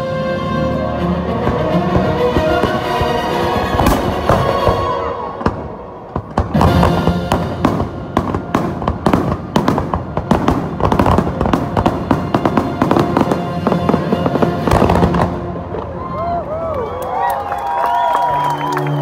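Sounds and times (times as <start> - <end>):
soundtrack music: 0.0 - 9.7, 10.9 - 16.7
fireworks bursts and cracks: 1.5 - 16.9.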